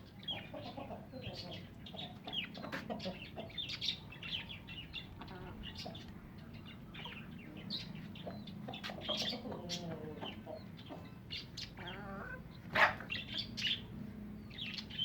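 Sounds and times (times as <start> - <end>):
chickens clucking: 0.0 - 15.0
small birds chirping: 0.0 - 15.0.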